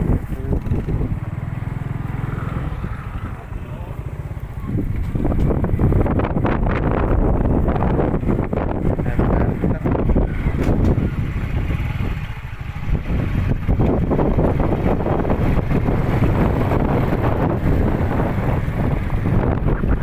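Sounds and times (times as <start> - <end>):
motorbike engine running: 0.0 - 20.0
wind buffeting microphone: 0.0 - 20.0.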